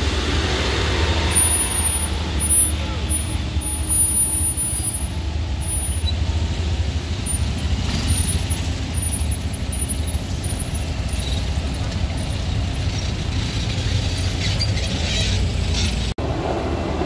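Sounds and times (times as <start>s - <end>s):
truck engines rumbling: 0.0s - 17.0s.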